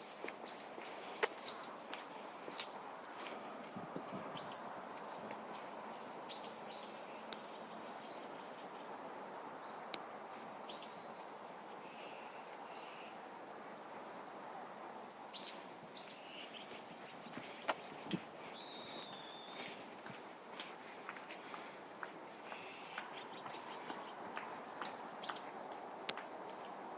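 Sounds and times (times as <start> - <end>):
small birds chirping: 0.0 - 14.2, 14.9 - 26.9
wind through trees: 0.0 - 26.9.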